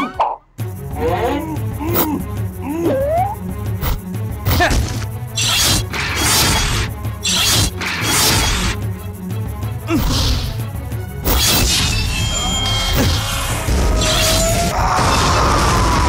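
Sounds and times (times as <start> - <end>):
cartoon action music: 0.0 - 16.0.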